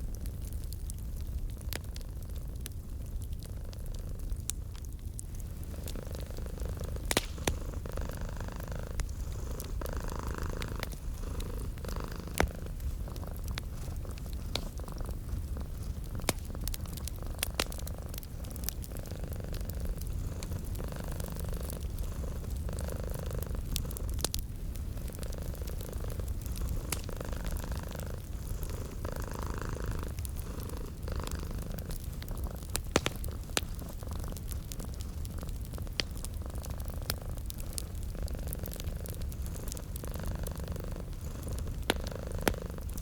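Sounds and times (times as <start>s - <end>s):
wood fire crackling: 0.0s - 43.0s
cat purring: 0.2s - 43.0s.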